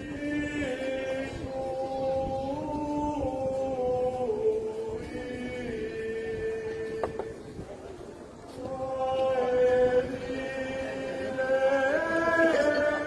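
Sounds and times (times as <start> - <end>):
small choir singing a chant: 0.0 - 7.6, 8.4 - 13.0.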